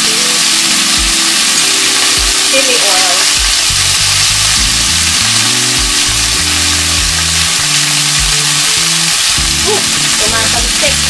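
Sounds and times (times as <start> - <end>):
background music of low notes: 0.0 - 11.0
chicken sizzling in a pan: 0.0 - 11.0.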